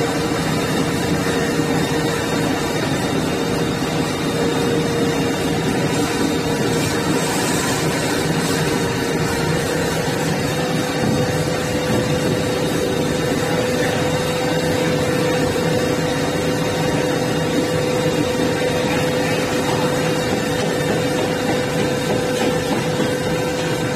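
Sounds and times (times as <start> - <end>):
milling machine grinding: 0.0 - 23.9.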